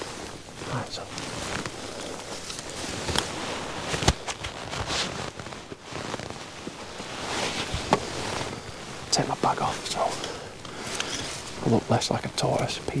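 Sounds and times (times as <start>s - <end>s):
clothing and backpack rustling: 0.0s - 13.0s.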